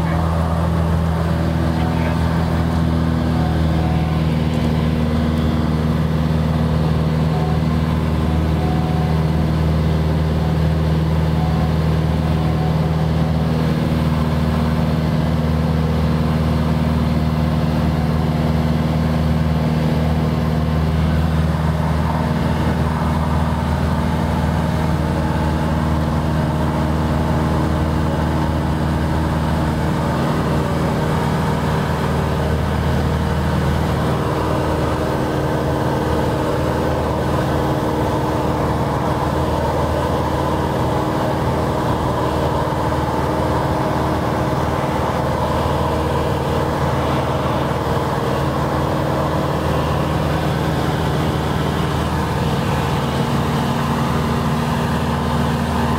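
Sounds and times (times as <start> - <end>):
aircraft engine and propeller droning: 0.0 - 55.9.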